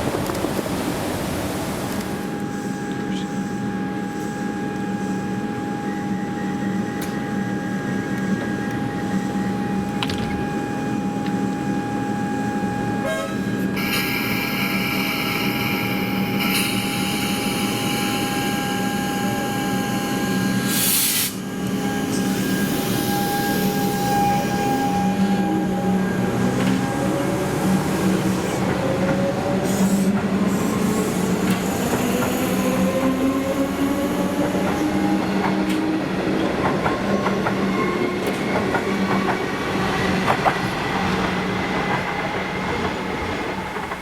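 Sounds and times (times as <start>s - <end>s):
electric train whine: 0.0s - 44.0s.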